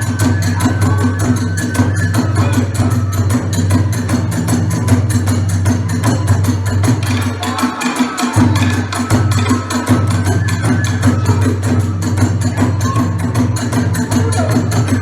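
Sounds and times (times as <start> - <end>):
fast percussion beat: 0.0 - 15.0.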